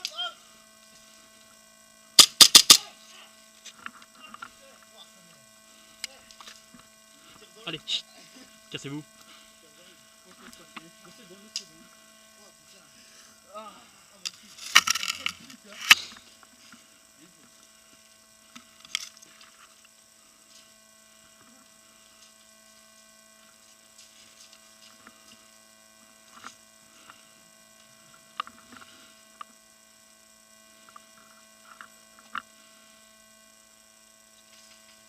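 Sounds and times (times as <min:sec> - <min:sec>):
faint electrical hum: 0:00.0 - 0:35.0.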